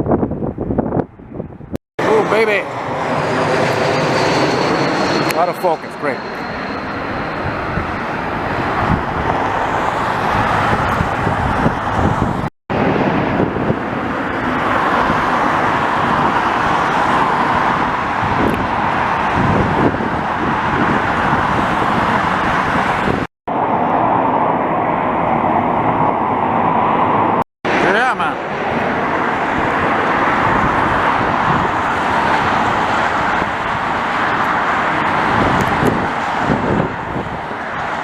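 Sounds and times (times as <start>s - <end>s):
jet engines roaring: 0.9s - 38.0s.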